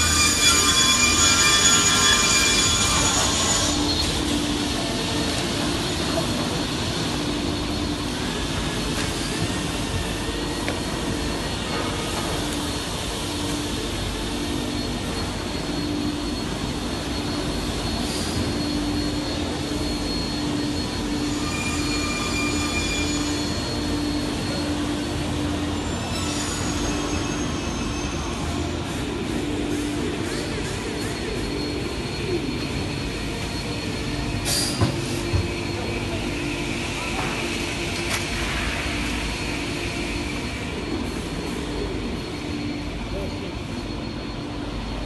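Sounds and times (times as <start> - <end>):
thin high whine: 0.0 - 45.0.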